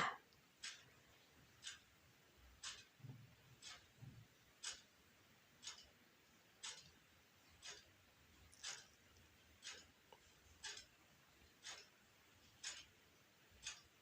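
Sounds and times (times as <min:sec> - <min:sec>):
clock ticking: 0:00.0 - 0:14.0.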